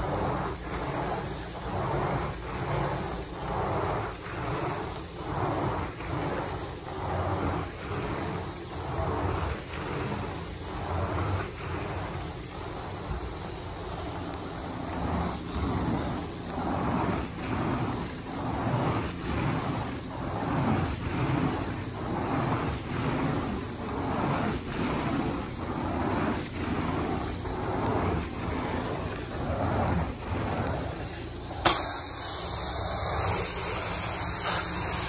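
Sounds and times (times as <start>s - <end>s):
carpet cleaning machine running: 0.0s - 35.0s.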